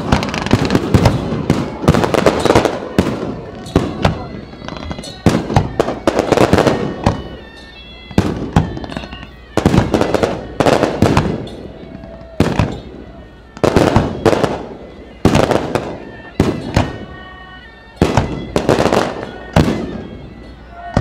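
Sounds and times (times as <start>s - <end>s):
fireworks bursting with bangs: 0.0s - 21.0s
fireworks crackles: 0.0s - 21.0s.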